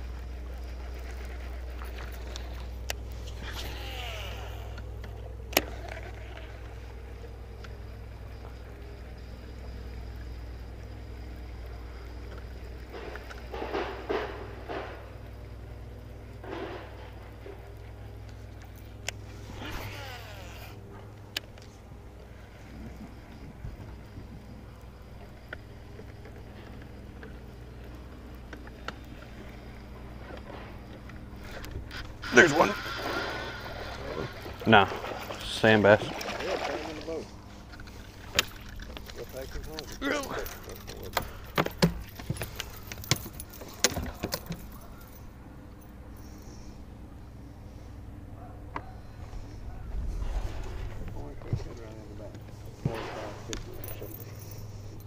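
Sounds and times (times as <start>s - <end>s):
electric trolling motor running: 0.0s - 55.0s.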